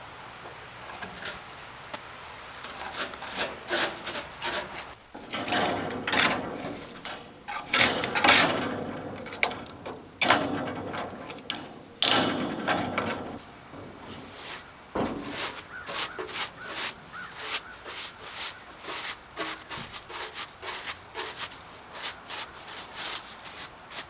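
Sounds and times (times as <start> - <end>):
rough scraping and rubbing: 2.6 - 24.0.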